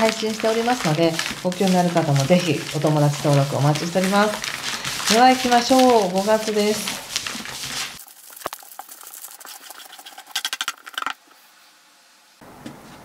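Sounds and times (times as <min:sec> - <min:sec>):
cards being shuffled: 0:00.0 - 0:11.2
cards sliding and rustling: 0:00.0 - 0:11.4.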